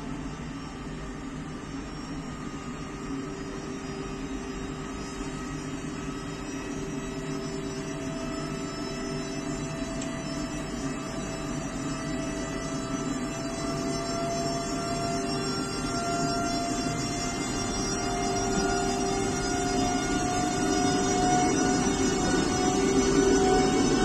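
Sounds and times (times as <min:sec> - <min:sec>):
electric locomotive motors whining: 0:04.4 - 0:24.0.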